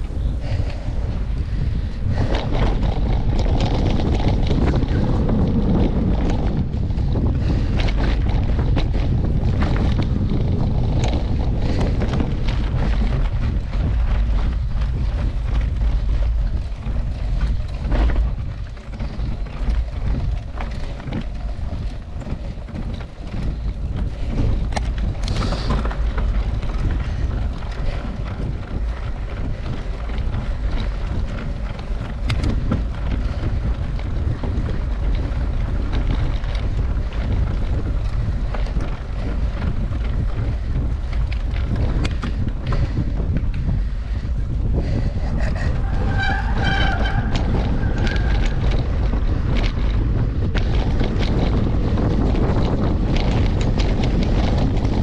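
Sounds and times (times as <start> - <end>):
bike knocks and rattles: 0.0 - 55.0
wind buffeting microphone: 0.0 - 55.0.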